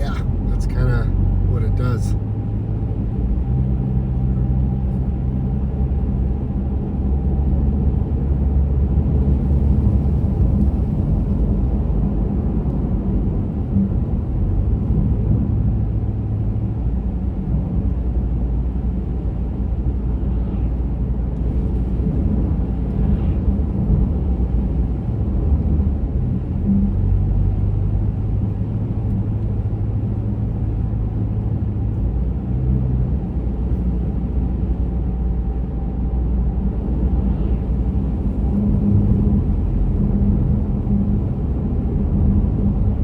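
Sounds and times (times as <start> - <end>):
car driving on highway: 0.0 - 43.0.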